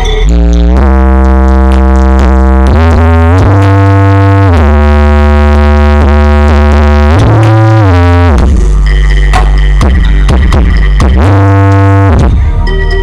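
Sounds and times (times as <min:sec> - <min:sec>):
electronic music with synthesizer bass: 0:00.0 - 0:13.0.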